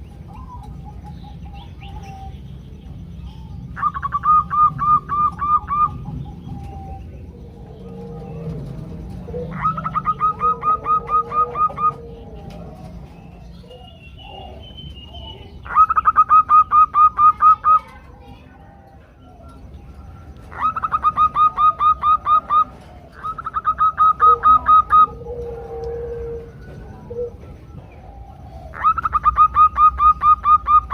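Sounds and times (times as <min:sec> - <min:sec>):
low dove cooing: 0:00.0 - 0:30.9
dove staccato call bursts: 0:03.7 - 0:18.0, 0:20.3 - 0:30.9.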